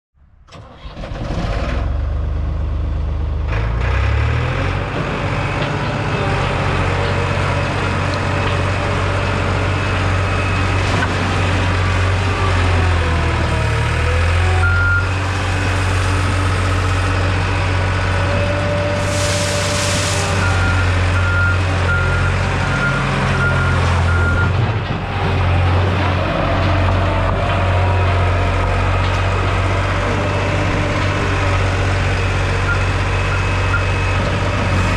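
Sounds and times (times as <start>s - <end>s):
diesel engine running: 0.5s - 34.9s.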